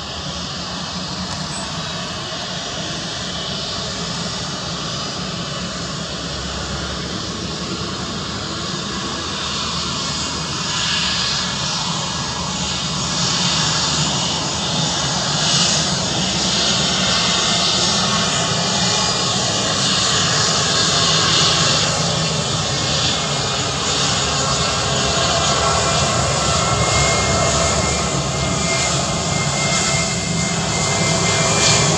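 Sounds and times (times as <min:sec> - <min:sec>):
jet engine roar: 0:00.0 - 0:31.9.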